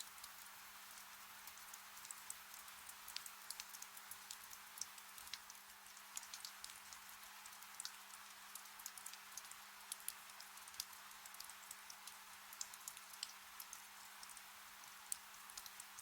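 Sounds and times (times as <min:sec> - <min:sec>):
soft rain pattering: 0:00.0 - 0:16.0.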